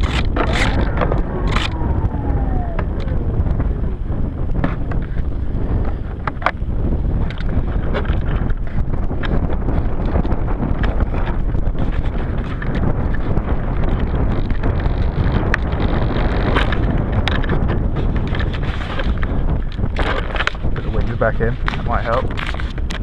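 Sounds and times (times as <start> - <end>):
crackles and small knocks: 0.0 - 23.0
wind buffeting microphone: 0.0 - 23.0.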